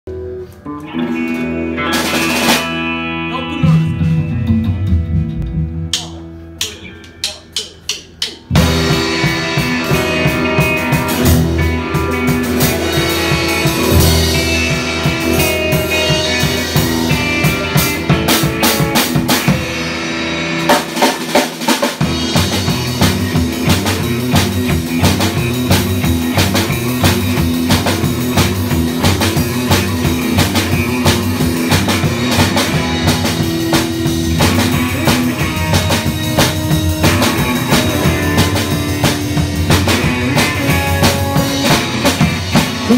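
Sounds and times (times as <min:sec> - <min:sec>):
drums: 0:00.1 - 0:42.9
live band playing: 0:00.1 - 0:42.9.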